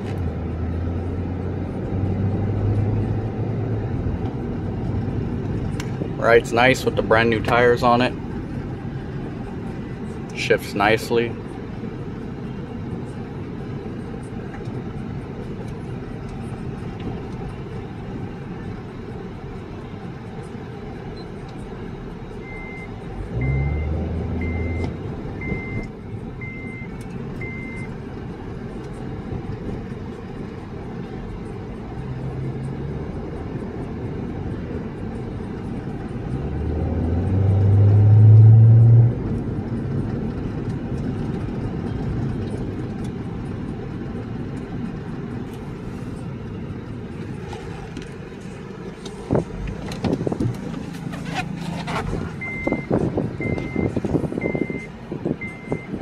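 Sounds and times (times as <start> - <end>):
road and engine noise in car: 0.0 - 56.0.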